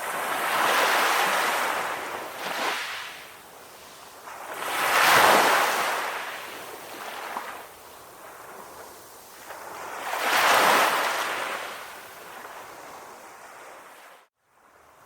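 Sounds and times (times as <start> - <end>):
sea waves breaking on shore: 0.0 - 14.9.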